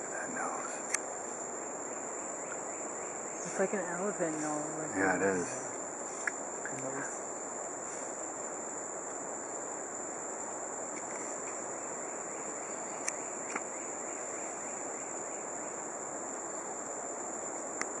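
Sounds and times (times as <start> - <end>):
background hiss: 0.0 - 18.0
insects chorus: 0.0 - 18.0.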